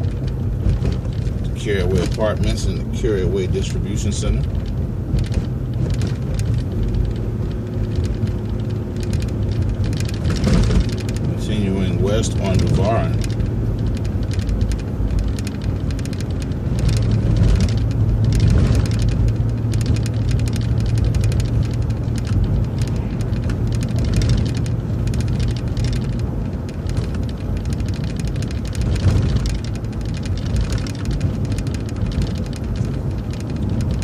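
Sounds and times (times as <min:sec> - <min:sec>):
bus engine drone: 0:00.0 - 0:34.0
light rattles and clicks: 0:00.0 - 0:34.0
road noise: 0:00.0 - 0:34.0.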